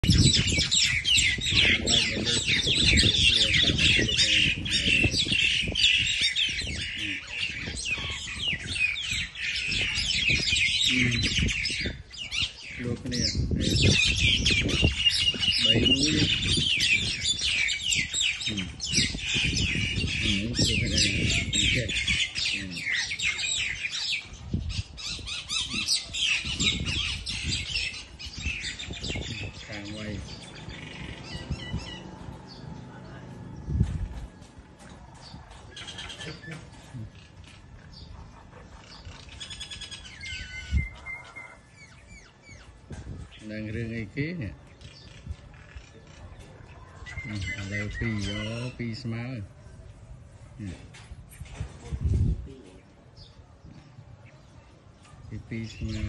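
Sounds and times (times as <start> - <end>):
birds squawking and screeching: 0.0 - 56.0.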